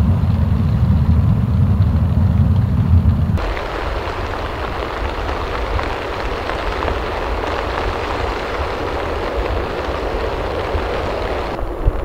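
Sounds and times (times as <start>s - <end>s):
deep rumble: 0.0s - 12.0s
wind and rain rushing: 0.0s - 12.0s
faint ticks of raindrops: 0.1s - 12.0s.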